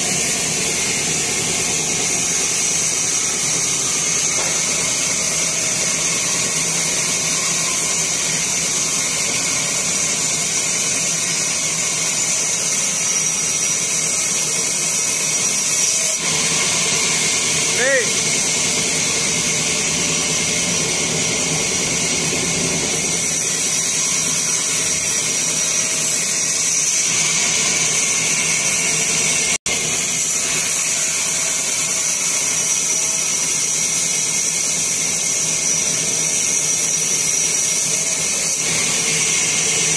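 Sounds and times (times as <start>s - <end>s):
band saw whining: 0.0s - 39.9s
blade hissing through wood: 0.0s - 39.9s.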